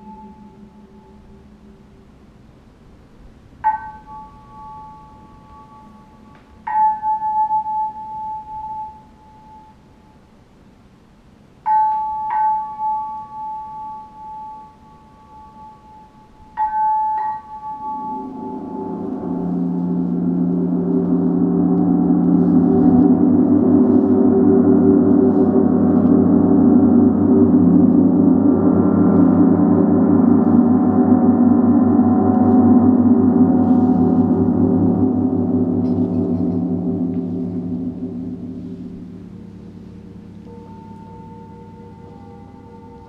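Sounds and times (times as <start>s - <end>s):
bright ringing gong strikes: 0.0s - 2.1s, 3.6s - 9.8s, 11.7s - 43.0s
large gong played continuously: 0.0s - 2.4s, 3.6s - 9.8s, 12.0s - 43.0s.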